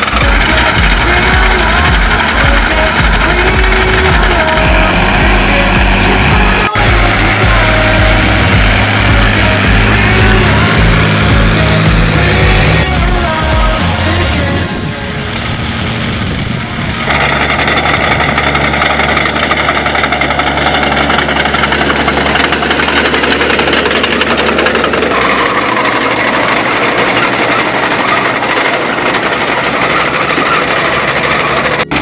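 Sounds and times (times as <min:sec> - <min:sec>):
diesel tractor engine under load: 0:00.0 - 0:32.0.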